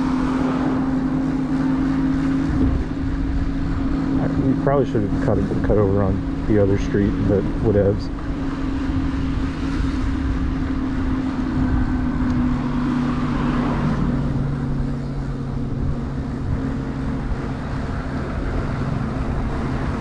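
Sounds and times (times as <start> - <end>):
electric moped hum: 0.0 - 20.0
wind rumbling on microphone: 0.0 - 20.0.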